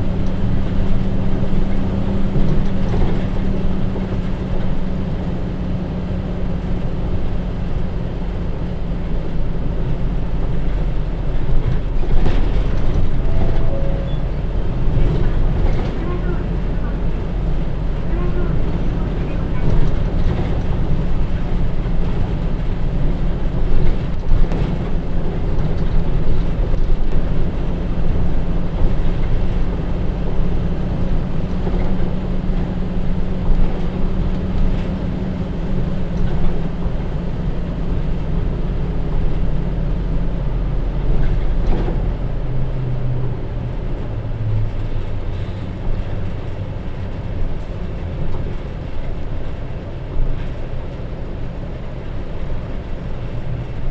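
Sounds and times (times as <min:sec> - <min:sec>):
bus diesel engine droning: 0:00.0 - 0:53.9.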